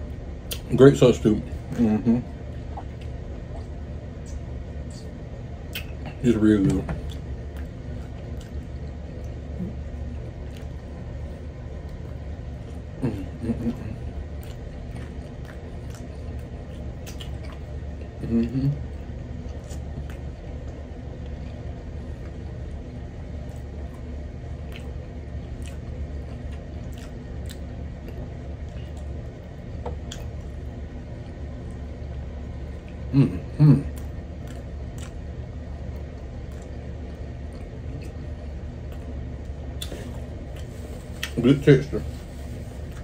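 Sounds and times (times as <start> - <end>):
steady low hum: 0.0 - 43.0
man chewing food: 1.5 - 41.4, 42.0 - 43.0.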